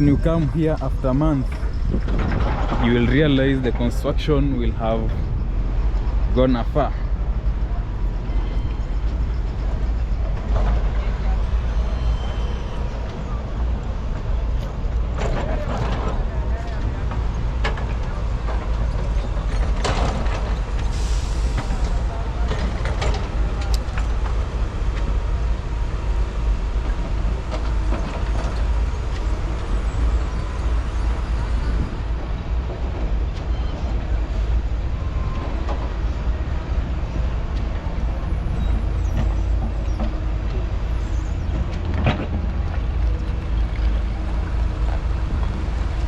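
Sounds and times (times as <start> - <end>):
diesel vehicles rumbling: 0.0 - 46.0.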